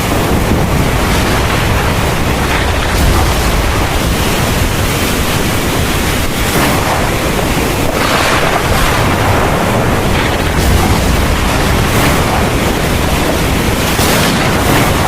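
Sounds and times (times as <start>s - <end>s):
heavy rain pouring: 0.0s - 15.0s
low rumble: 0.0s - 15.0s.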